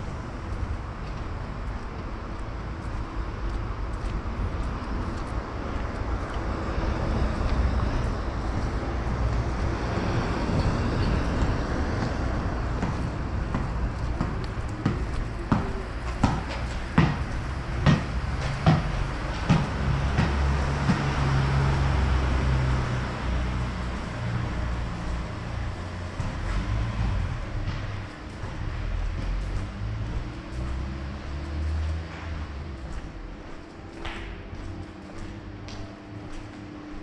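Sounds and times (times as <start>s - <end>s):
low engine hum: 0.0s - 37.0s
low traffic rumble: 0.0s - 37.0s.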